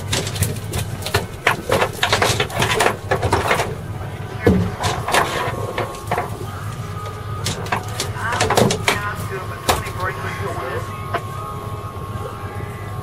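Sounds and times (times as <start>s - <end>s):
fish flopping on boat deck: 0.0s - 11.4s
low steady hum: 0.0s - 13.0s.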